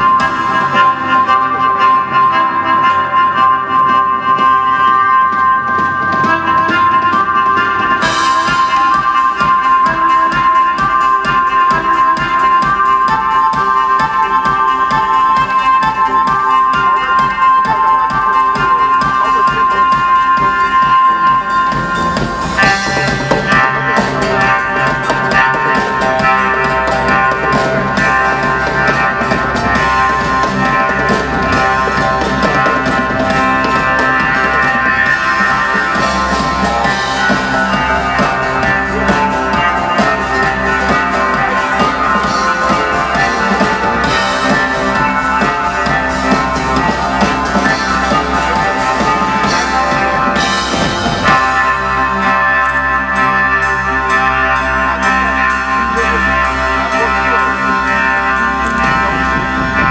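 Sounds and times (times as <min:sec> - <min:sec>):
rock drum beat: 0:00.0 - 0:59.9.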